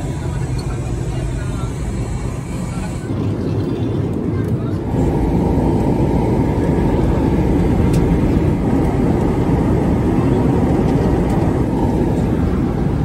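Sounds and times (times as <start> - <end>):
airliner cabin noise: 0.0 - 13.0.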